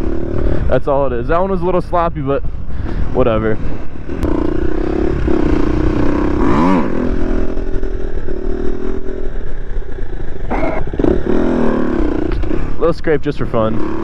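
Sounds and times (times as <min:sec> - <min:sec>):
motorcycle engine revving: 0:00.0 - 0:00.7, 0:03.2 - 0:14.0.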